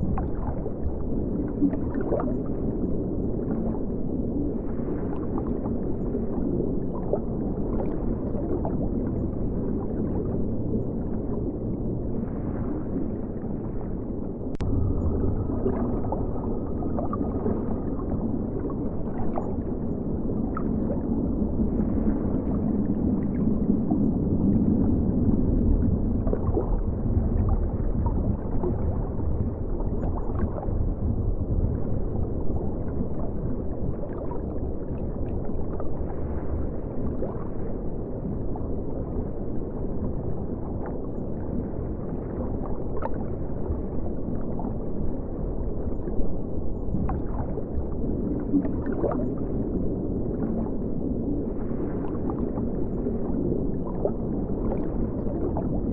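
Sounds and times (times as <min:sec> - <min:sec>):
muffled underwater river rush: 0:00.0 - 0:55.9.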